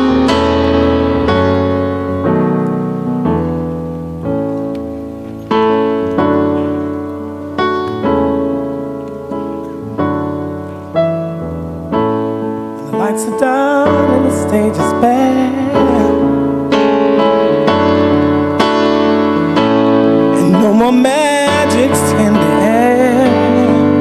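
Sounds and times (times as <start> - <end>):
slow piano ballad: 0.0 - 24.0.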